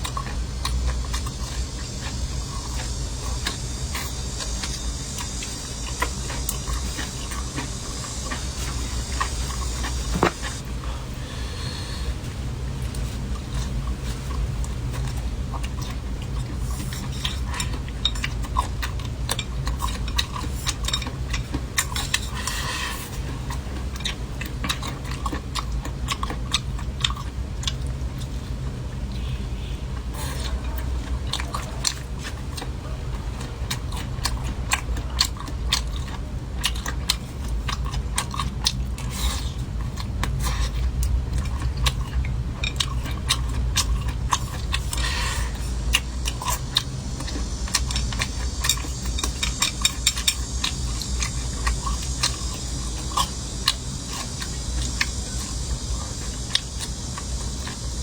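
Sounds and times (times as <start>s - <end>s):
chewing and crunching food: 0.0s - 58.0s
steady low hum: 0.0s - 58.0s.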